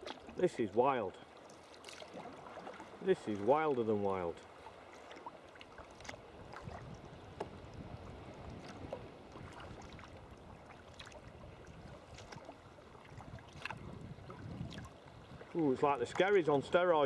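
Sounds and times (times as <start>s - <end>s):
paddle splashes and drips: 0.0s - 17.0s
water washing against hull: 0.0s - 17.0s.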